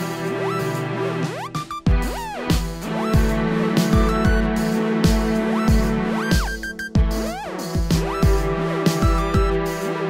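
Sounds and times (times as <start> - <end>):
beat-based electronic music: 0.0 - 10.0.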